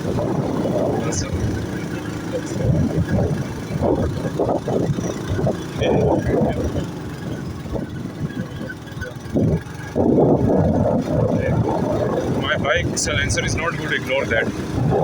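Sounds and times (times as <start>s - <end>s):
motorcycle engine and exhaust: 0.0s - 15.0s.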